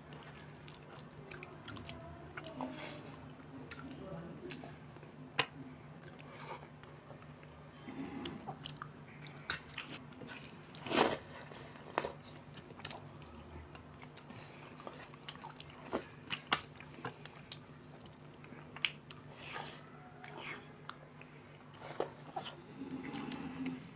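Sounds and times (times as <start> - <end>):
chewing: 0.0 - 23.9
low steady hum: 0.0 - 23.9.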